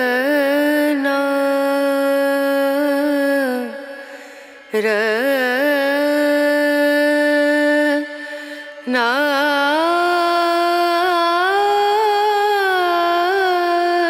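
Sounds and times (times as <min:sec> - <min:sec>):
singer holding long notes: 0:00.0 - 0:14.0.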